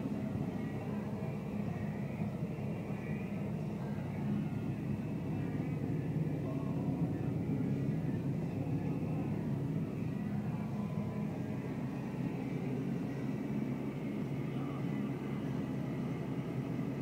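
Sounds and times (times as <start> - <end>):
tractor diesel engine drone: 0.0 - 17.0.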